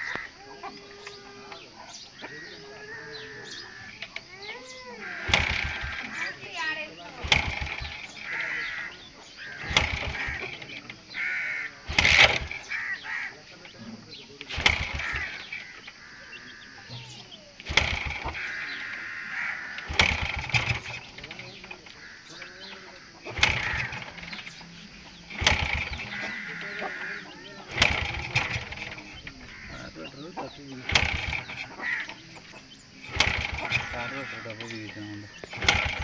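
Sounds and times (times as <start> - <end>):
harsh cawing bird calls: 0.0 - 36.0.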